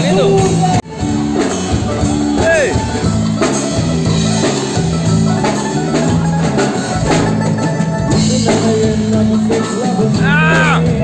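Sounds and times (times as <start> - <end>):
drum kit: 0.0 - 11.0
stepping bass line: 0.0 - 11.0.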